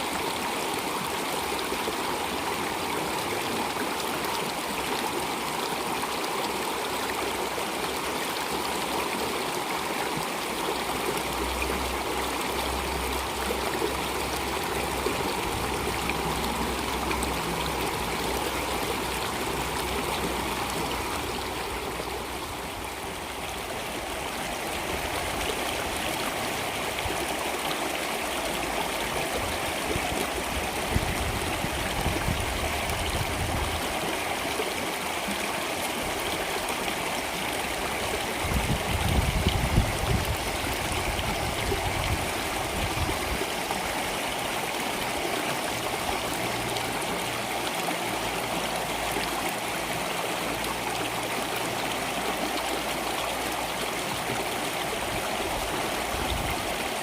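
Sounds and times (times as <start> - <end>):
water flowing in a stream: 0.0 - 57.0.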